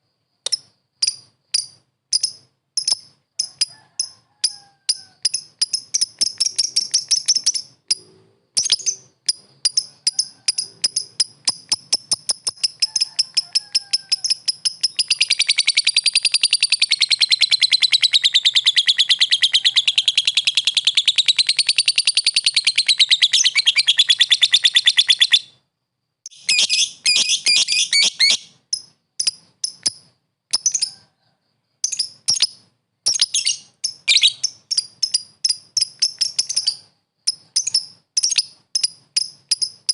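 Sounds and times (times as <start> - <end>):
lovebird chirping: 0.4 - 25.6, 26.2 - 31.1, 31.8 - 39.9.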